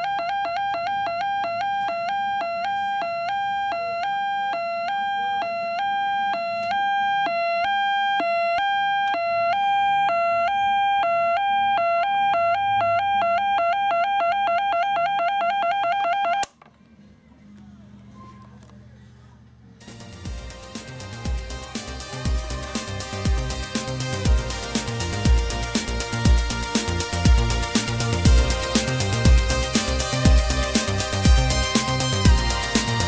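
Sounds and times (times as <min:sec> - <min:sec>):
two-tone electronic siren: 0:00.0 - 0:16.5, 0:19.9 - 0:33.0.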